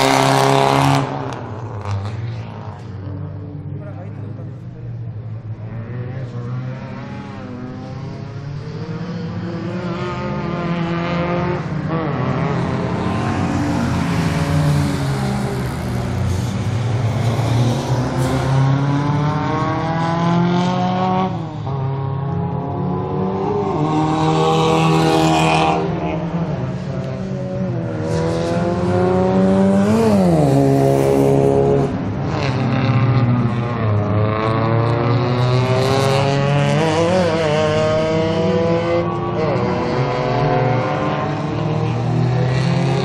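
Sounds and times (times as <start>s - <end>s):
race car engines revving past: 0.0s - 43.0s.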